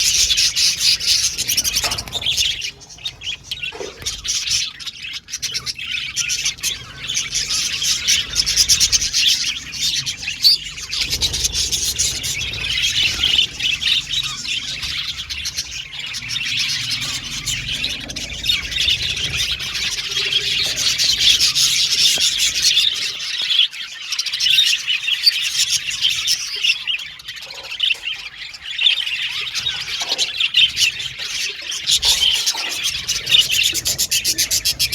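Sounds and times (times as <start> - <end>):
budgerigars chirping: 0.0 - 34.9.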